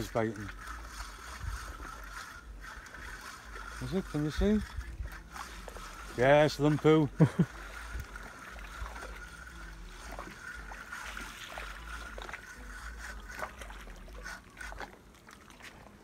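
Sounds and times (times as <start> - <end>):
fishing reel being cranked: 0.0 - 15.8.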